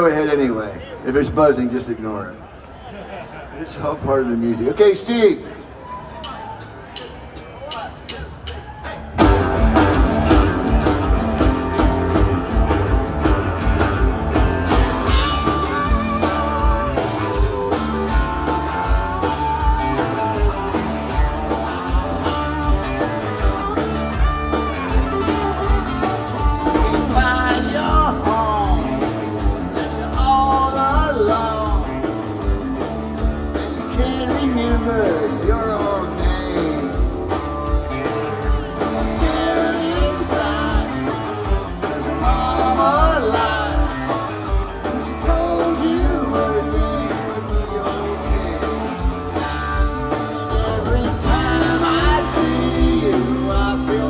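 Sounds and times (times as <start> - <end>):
drum beat: 6.2 - 54.0
bass and electric guitars: 7.6 - 54.0
lead guitar bending notes: 9.2 - 54.0.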